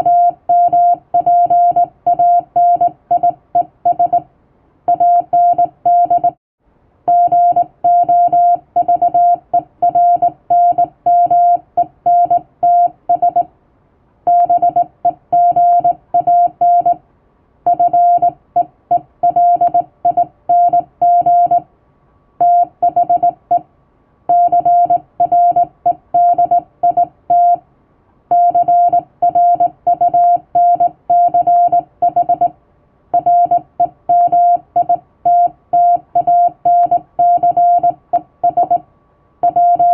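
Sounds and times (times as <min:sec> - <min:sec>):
morse code beeps: 0:00.0 - 0:04.2, 0:04.9 - 0:06.4, 0:07.1 - 0:13.5, 0:14.3 - 0:17.0, 0:17.7 - 0:21.6, 0:22.4 - 0:23.6, 0:24.3 - 0:27.6, 0:28.3 - 0:32.5, 0:33.2 - 0:38.8, 0:39.4 - 0:39.9.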